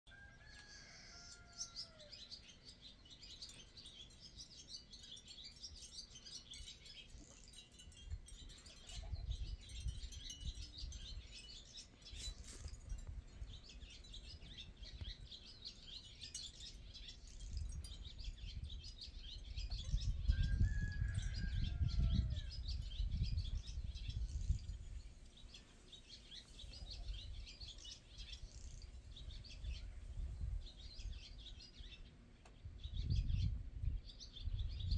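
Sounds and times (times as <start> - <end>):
swallows twittering: 0.6 - 34.9.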